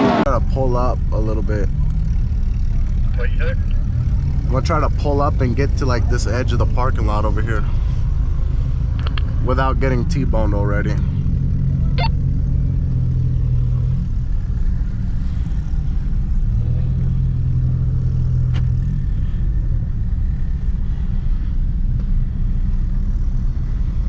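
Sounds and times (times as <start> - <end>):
car engine and exhaust drone: 0.0 - 24.0.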